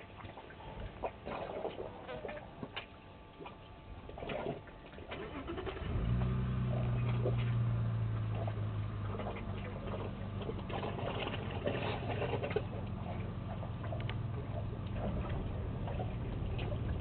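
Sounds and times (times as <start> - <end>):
low steady hum: 0.0 - 17.0
water splashing and dripping: 0.0 - 17.0.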